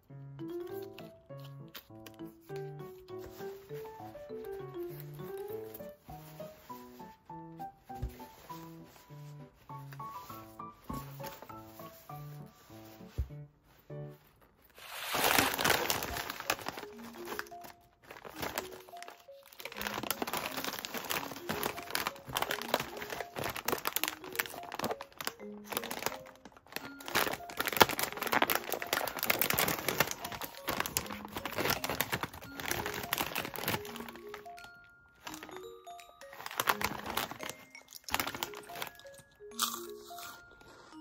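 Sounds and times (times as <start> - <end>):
soft background music: 0.0 - 41.0
plastic snack bag crinkling: 0.6 - 13.1, 14.5 - 41.0.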